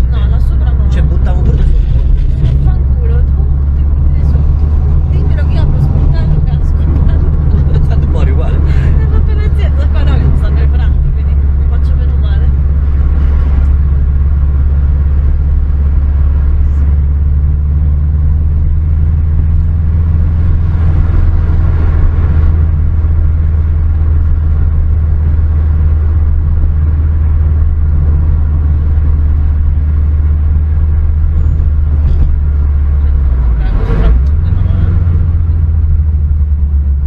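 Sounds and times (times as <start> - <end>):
car engine running: 0.0 - 37.0
road rumble: 0.0 - 37.0.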